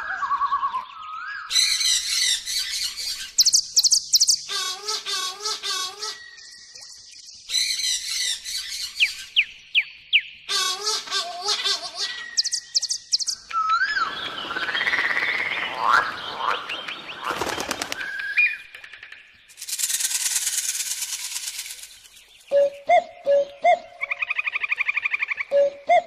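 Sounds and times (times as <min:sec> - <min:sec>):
bird calls and chirps: 0:00.0 - 0:26.0.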